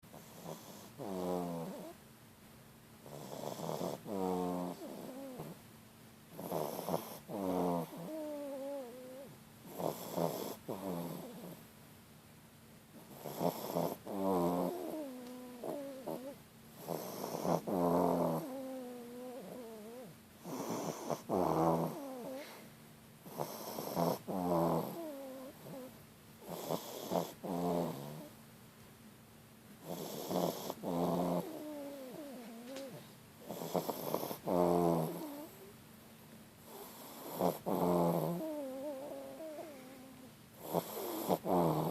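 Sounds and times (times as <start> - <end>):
dog snoring: 0.1 - 2.0, 3.0 - 5.6, 6.3 - 11.6, 13.0 - 22.6, 23.2 - 28.3, 29.8 - 35.7, 36.6 - 41.9.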